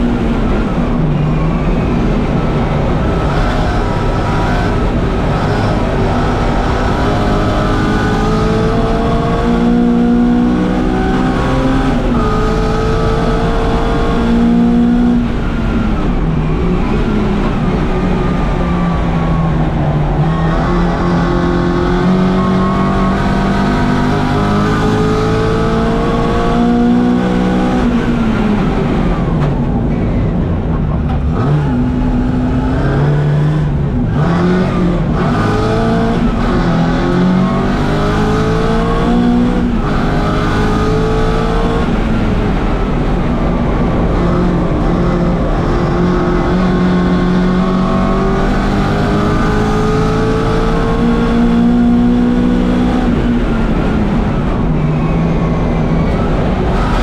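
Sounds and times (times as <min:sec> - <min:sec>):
car engine at full throttle: 0:00.0 - 0:57.0.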